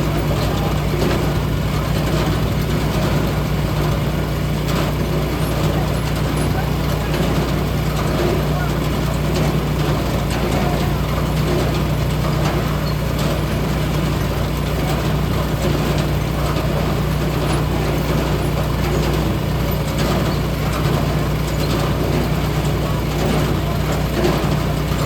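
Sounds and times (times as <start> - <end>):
log splitter engine running: 0.0 - 25.0.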